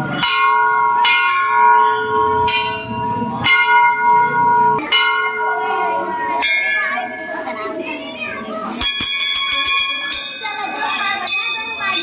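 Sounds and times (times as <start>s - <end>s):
bell ringing: 0.0s - 12.0s.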